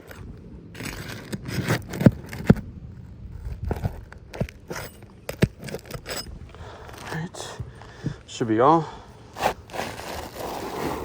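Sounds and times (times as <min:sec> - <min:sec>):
roof shingles scraping and crackling: 0:00.0 - 0:11.0.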